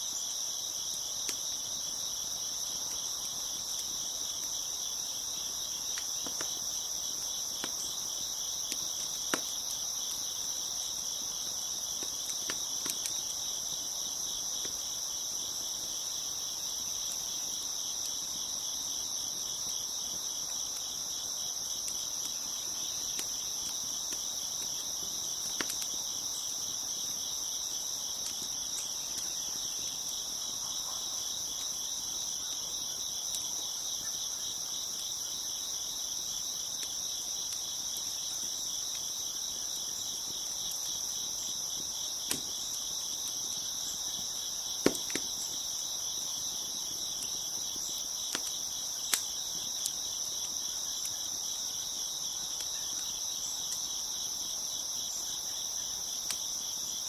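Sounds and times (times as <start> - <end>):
crickets chirping: 0.0 - 57.0
wood fire popping: 0.2 - 33.7, 34.6 - 53.9.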